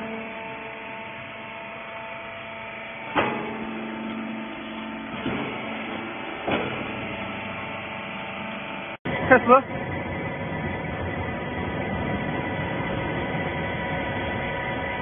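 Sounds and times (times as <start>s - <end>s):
baler motor and pump humming: 0.0s - 15.0s.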